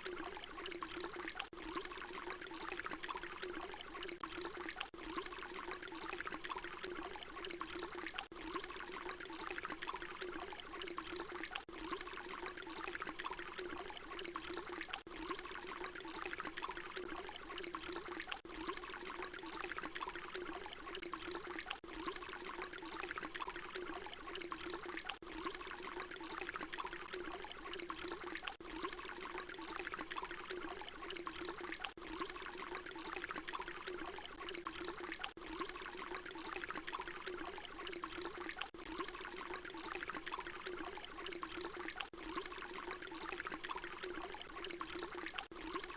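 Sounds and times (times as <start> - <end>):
water pouring: 0.0 - 45.9.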